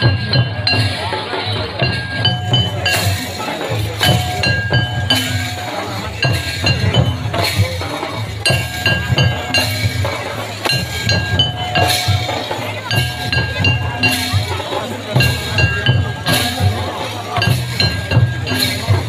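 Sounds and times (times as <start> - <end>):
low drum beat: 0.0 - 19.0.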